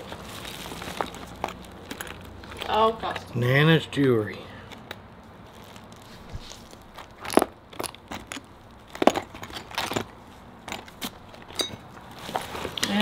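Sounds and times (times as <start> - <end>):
jewelry clicking and crackling: 0.0 - 3.4, 4.7 - 12.1.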